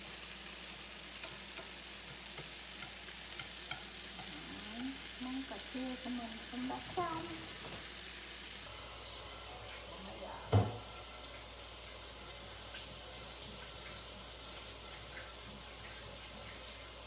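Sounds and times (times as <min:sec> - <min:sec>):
running water hiss: 0:00.0 - 0:17.0.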